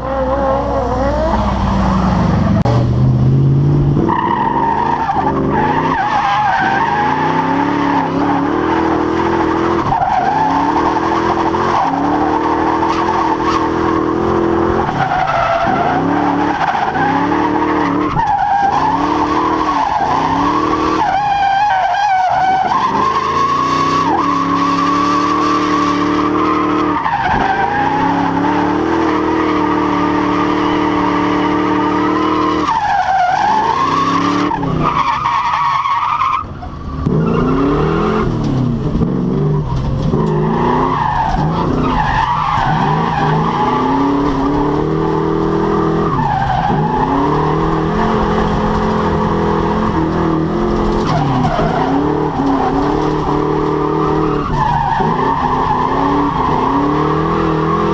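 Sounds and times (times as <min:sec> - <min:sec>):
car engine at high revs: 0:00.0 - 0:57.9.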